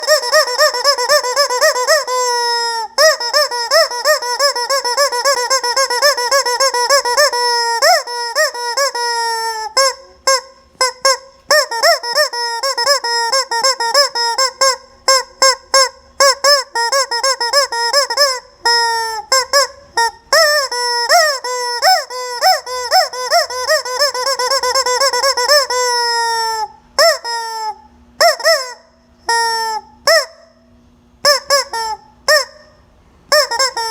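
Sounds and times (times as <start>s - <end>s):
squeaky rubber chicken toy squawking: 0.0s - 33.9s.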